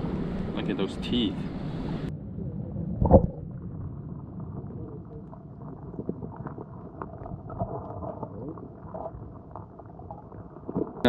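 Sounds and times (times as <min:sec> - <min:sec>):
underwater churn of water: 0:00.0 - 0:11.0.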